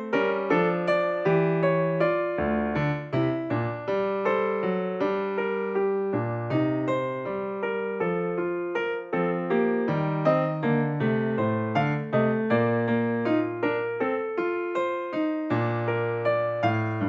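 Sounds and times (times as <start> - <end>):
piano playing notes: 0.0 - 17.0.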